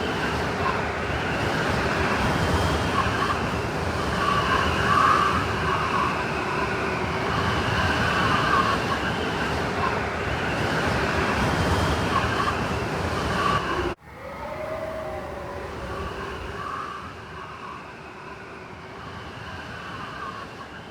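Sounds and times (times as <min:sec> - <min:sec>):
blizzard wind roaring with whistles: 0:00.0 - 0:20.9
wind howling low: 0:00.0 - 0:20.9.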